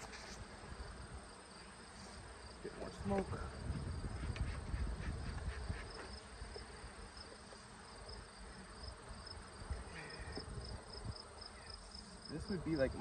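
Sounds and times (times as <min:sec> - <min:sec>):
honeybees buzzing: 0:00.0 - 0:13.0
insect chirping: 0:00.0 - 0:13.0.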